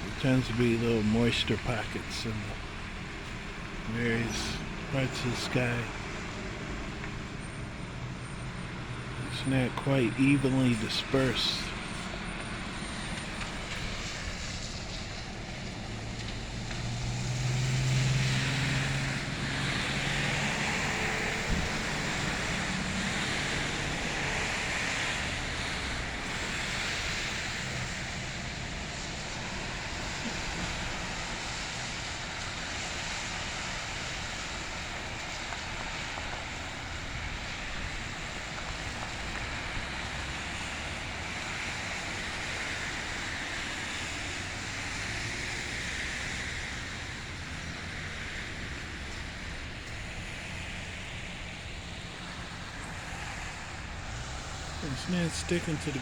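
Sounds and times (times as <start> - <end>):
steady rushing outdoor noise: 0.0 - 56.0.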